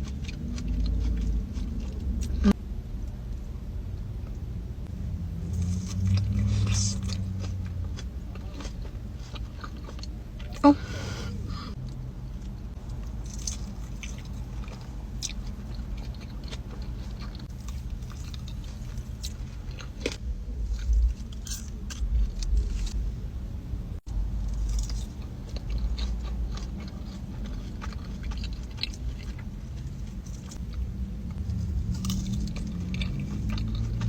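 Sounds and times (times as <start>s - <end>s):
chewing and biting food: 0.0s - 2.5s, 5.4s - 10.7s, 11.7s - 23.0s, 24.4s - 34.0s.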